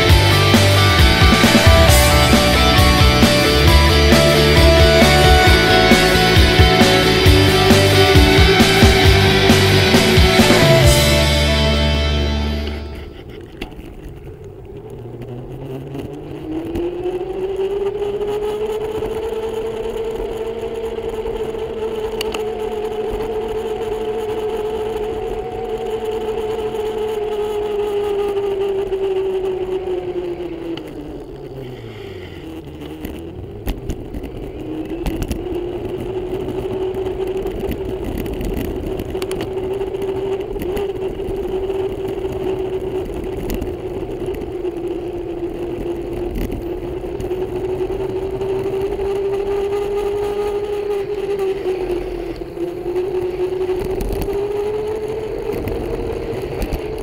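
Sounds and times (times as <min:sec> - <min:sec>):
electric bike motor whining: 0:00.0 - 0:57.0
road noise: 0:00.0 - 0:57.0.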